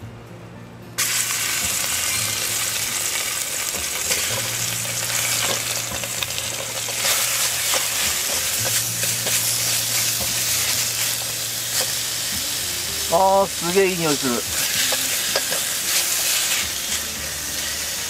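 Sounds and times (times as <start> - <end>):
beef sizzling in hot oil: 1.0 - 18.0.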